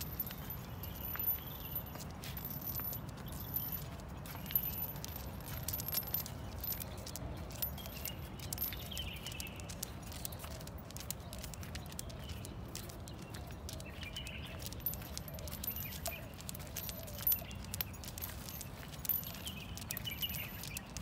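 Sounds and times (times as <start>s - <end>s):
dog leash and collar jingling: 0.0s - 21.0s.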